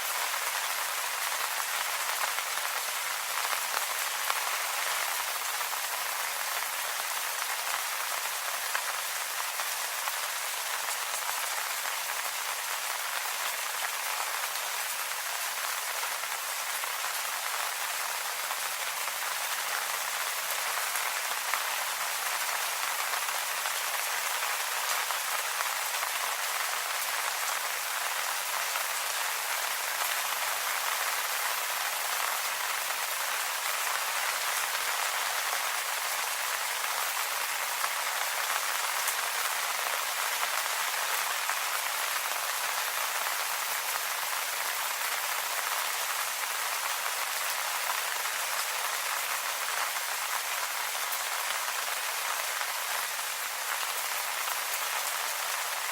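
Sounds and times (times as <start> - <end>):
rain falling on leaves: 0.0 - 55.9.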